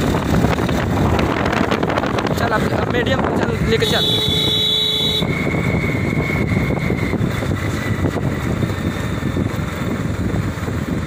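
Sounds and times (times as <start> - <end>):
vehicle engine running: 0.0 - 11.0
wind rumbling on microphone: 0.0 - 11.0.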